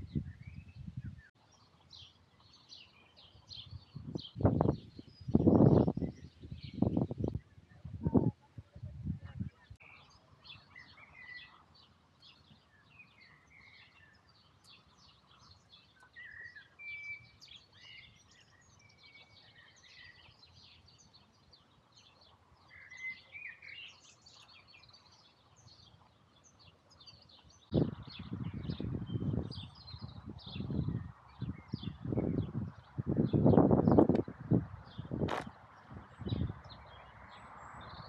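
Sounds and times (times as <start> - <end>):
small birds chirping and singing: 0.0 - 38.0.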